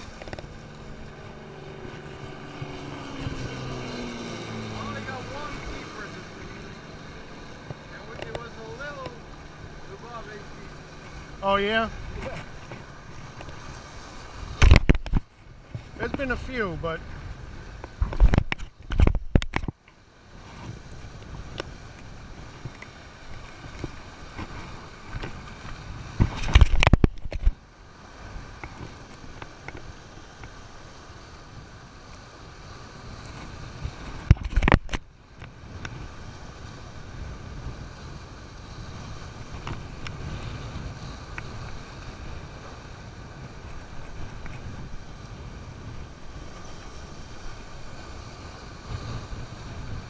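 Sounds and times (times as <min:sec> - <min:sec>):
surf against rocks: 0:00.0 - 0:50.0
wind buffeting microphone: 0:00.0 - 0:50.0.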